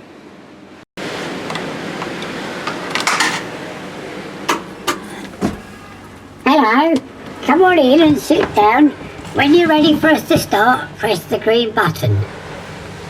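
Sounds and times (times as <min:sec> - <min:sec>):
clattery background noise: 0:00.0 - 0:13.0.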